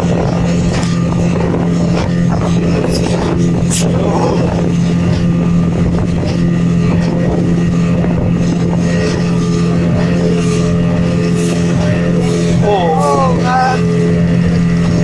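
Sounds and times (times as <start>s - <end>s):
speedboat engine drone: 0.0s - 15.0s
wind buffeting microphone: 0.0s - 15.0s.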